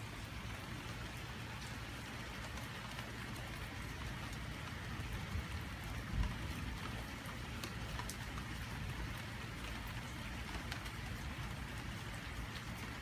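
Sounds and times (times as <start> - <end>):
rain on a wooden deck: 0.0 - 13.0.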